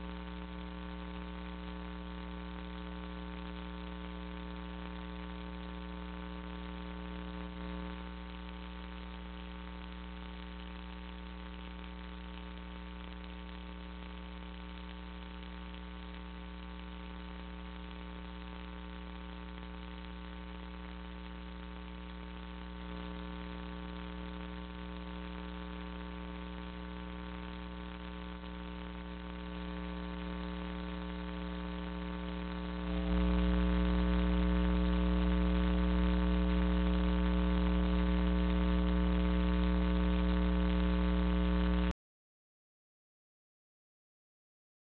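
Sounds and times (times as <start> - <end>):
electrical mains hum: 0.0 - 41.9.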